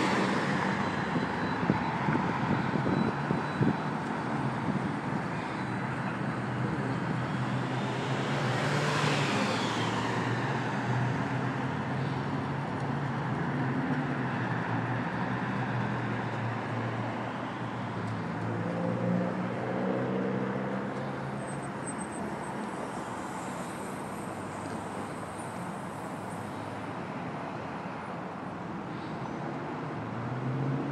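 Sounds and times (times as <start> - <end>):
road traffic: 0.0 - 30.9.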